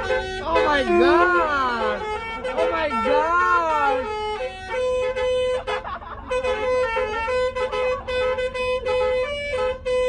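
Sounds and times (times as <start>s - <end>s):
bus air horn tune: 0.0s - 10.0s.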